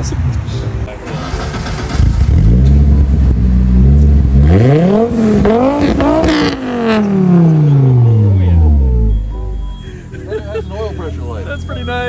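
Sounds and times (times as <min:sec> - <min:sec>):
car engine idling and revving: 0:00.8 - 0:12.0.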